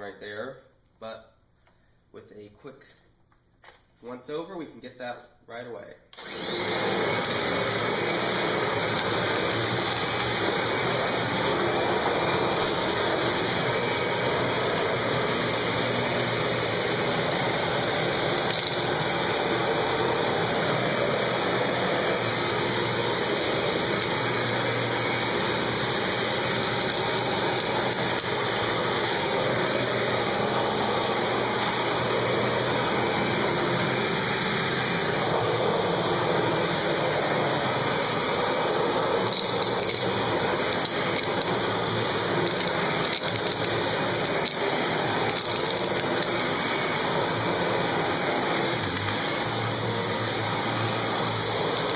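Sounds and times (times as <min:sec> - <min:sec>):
vacuum cleaner running: 0:06.2 - 0:51.9.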